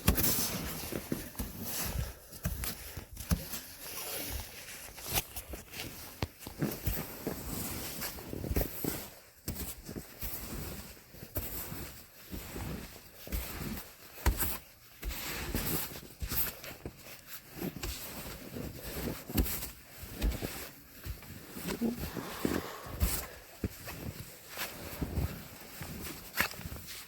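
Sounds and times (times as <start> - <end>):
footsteps crunching in snow: 3.5 - 27.0.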